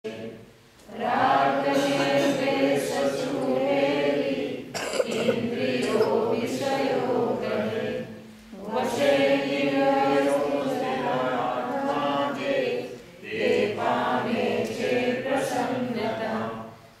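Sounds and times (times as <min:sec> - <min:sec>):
group singing a slow chant: 0:00.0 - 0:17.0.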